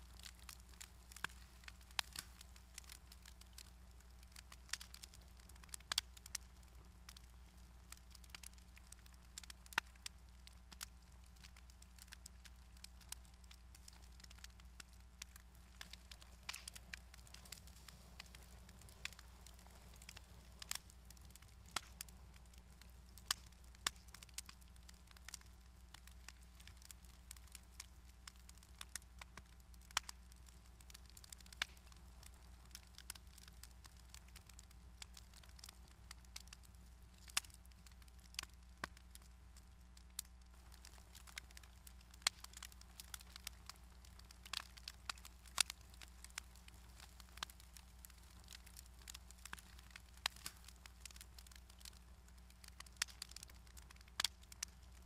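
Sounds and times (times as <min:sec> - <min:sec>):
low steady hum: 0:00.0 - 0:52.7
fire crackling: 0:00.0 - 0:55.0.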